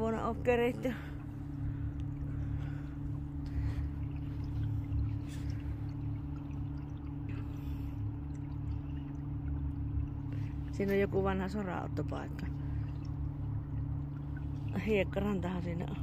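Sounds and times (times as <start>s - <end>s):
boat motor humming: 0.0s - 16.0s
water splashing against hull: 0.0s - 16.0s.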